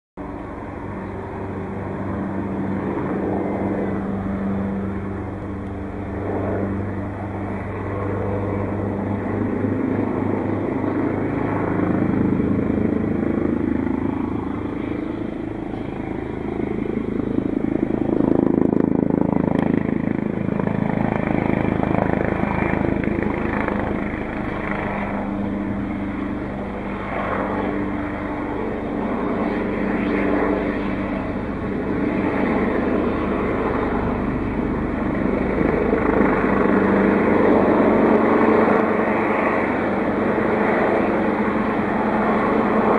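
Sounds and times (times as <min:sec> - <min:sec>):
helicopter rotors and engines droning: 0:00.2 - 0:42.9.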